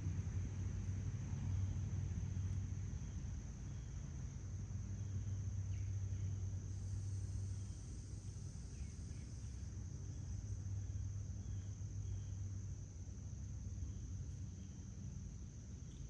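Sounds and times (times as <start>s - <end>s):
insects droning: 0.0s - 16.0s
low steady hum: 0.0s - 16.0s.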